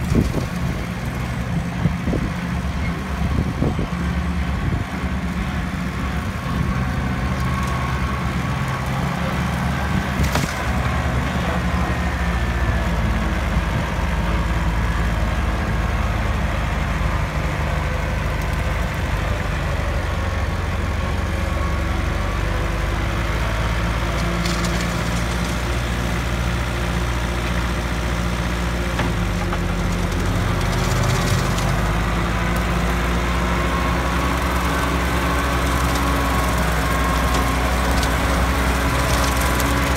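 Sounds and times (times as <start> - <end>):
diesel tractor running: 0.0 - 39.9
mower cutting tall grass: 0.0 - 39.9.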